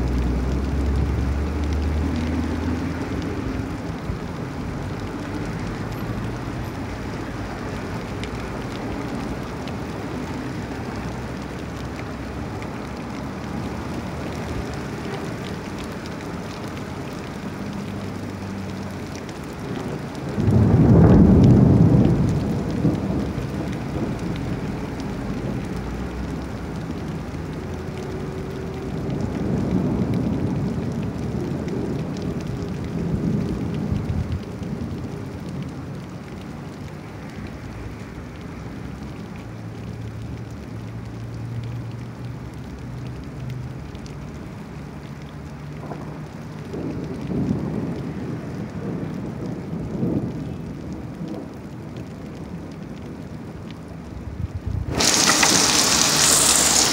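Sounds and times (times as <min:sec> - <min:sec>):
heavy rain on street: 0:00.0 - 0:56.9
vehicles passing on wet road: 0:00.0 - 0:56.9.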